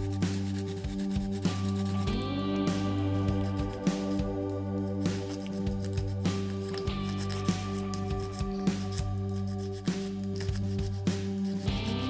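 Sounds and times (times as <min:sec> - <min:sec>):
music with held chords and beat: 0:00.0 - 0:12.0.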